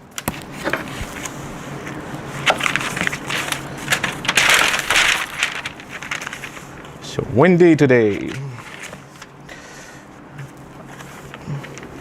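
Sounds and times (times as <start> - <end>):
paper crinkling and rustling: 0.0 - 7.2, 7.8 - 9.4, 10.0 - 12.0.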